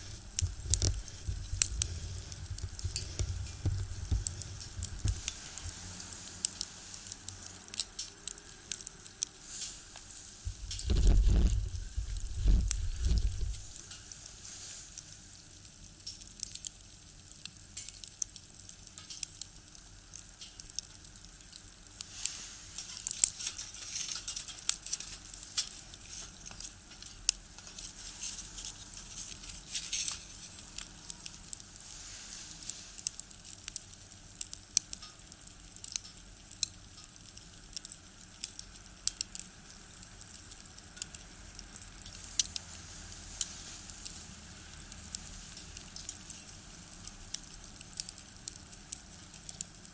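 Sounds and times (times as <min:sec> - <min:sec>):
firewood crackling and popping: 0:00.0 - 0:49.9
soft fire hiss: 0:00.0 - 0:49.9.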